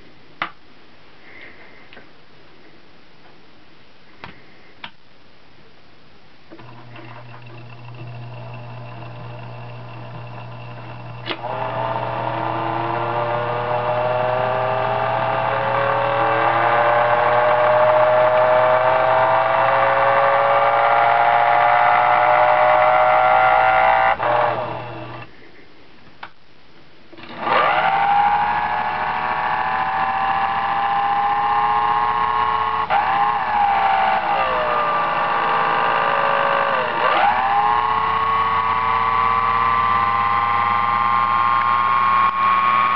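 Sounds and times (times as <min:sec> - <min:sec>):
electric motor whine: 0:06.6 - 0:25.3, 0:27.2 - 0:42.9.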